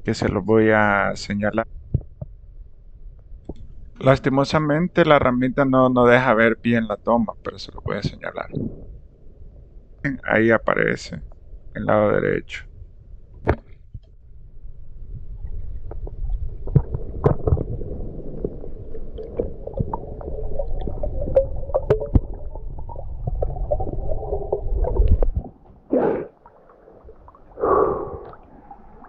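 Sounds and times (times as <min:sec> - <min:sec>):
low rumble of water: 0:00.0 - 0:29.0.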